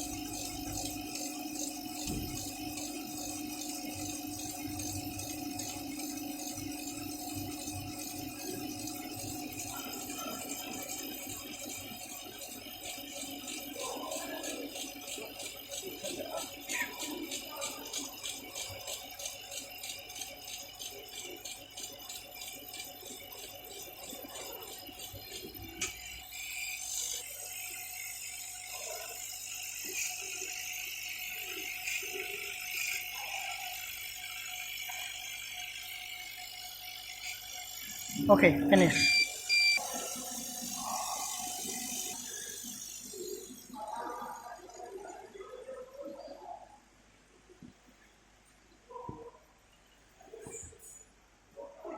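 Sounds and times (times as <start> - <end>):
stepper motors rattling: 0.0 - 45.2
fans and air pump humming: 0.0 - 51.9.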